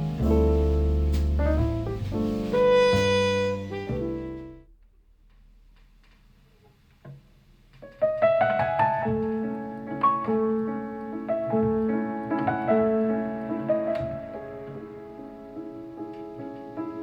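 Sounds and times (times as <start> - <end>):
piano music over speakers: 0.0 - 4.6, 7.9 - 17.0.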